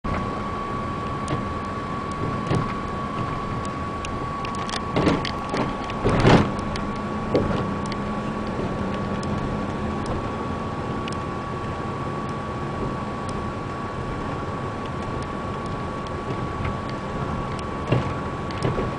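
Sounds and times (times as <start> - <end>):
constant high whine: 0.0 - 18.9
vehicle road and engine noise: 0.0 - 18.9.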